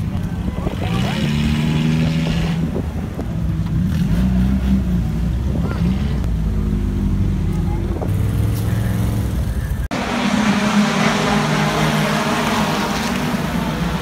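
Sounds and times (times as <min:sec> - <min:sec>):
race car engines passing slowly: 0:00.0 - 0:14.0.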